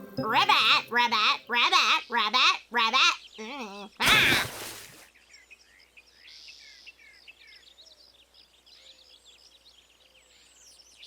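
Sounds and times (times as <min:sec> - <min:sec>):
small birds chirping: 0:00.3 - 0:11.0.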